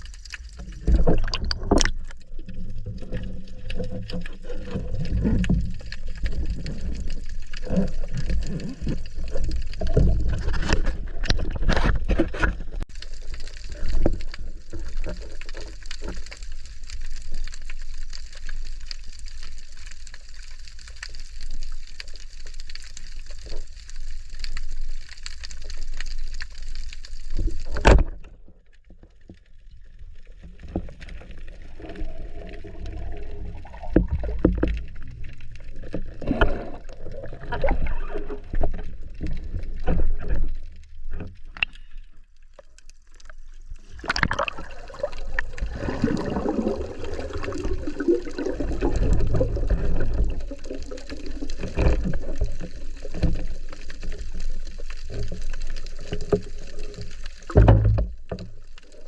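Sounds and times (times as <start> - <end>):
sea water sloshing and gurgling: 0.0 - 59.0
water splashes: 0.0 - 59.0.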